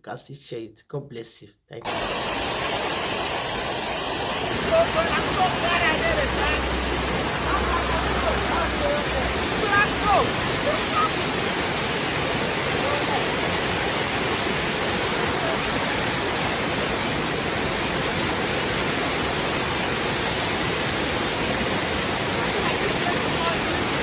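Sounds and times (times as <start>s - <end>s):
water cascading down a waterfall: 1.8s - 24.0s.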